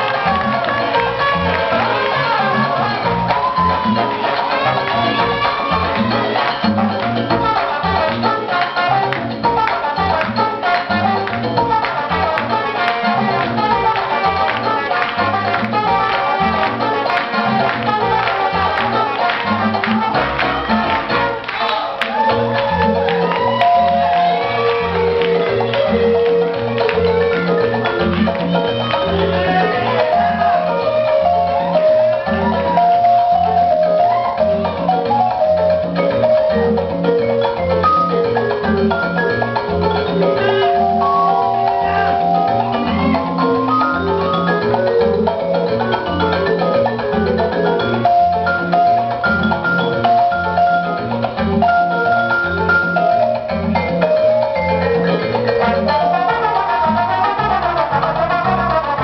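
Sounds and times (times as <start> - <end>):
salsa music: 0.0 - 59.0.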